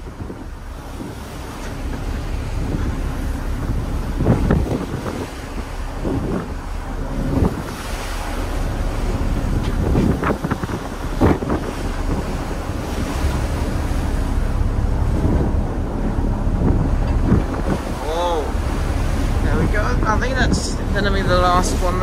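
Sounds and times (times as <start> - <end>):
sea breaking along hull: 0.0 - 22.0
wind buffeting microphone: 0.0 - 22.0.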